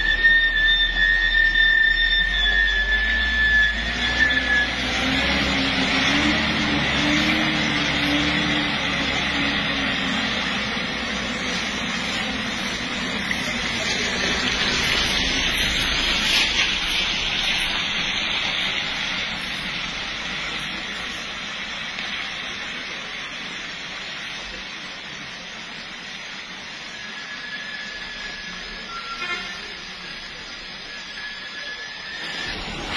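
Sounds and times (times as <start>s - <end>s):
rain on a wet road: 0.0s - 32.9s
vehicle engine running low: 2.2s - 29.0s, 29.6s - 32.9s.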